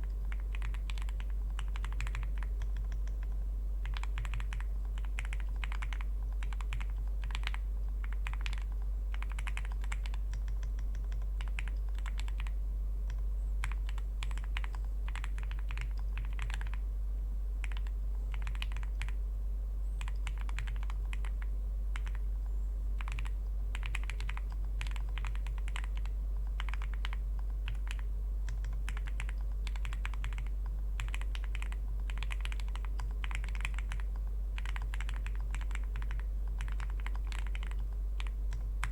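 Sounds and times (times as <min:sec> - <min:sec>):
constant low hum: 0:00.0 - 0:38.9
mechanical keyboard typing: 0:00.3 - 0:16.8, 0:17.6 - 0:19.2, 0:20.0 - 0:21.4, 0:22.0 - 0:22.2, 0:23.0 - 0:38.9.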